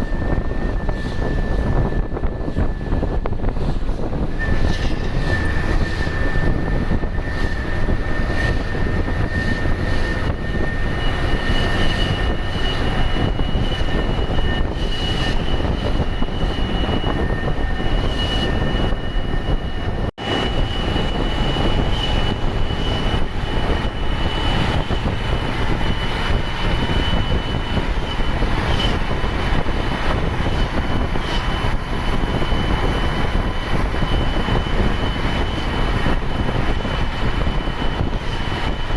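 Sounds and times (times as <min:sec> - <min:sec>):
bus diesel engine pulling: 0:00.0 - 0:38.9
high turbo whistle: 0:00.0 - 0:38.9.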